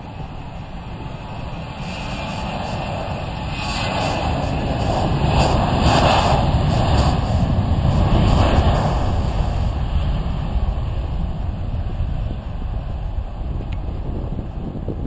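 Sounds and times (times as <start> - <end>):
jet airliner taking off: 0.0 - 15.0.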